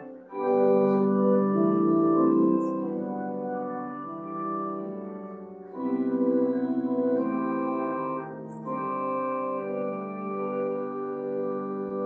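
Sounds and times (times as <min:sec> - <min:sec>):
organ playing sustained chords: 0:00.0 - 0:12.0.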